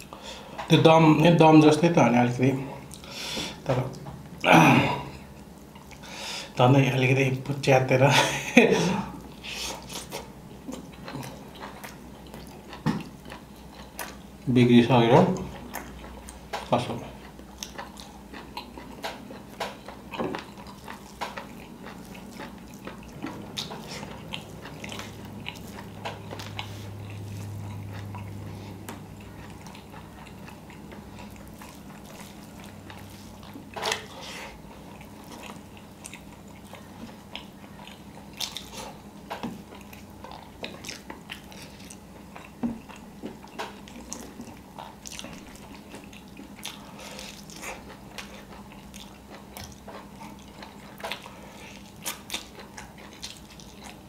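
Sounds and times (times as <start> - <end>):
man chewing food: 0.0 - 6.6, 8.2 - 54.0.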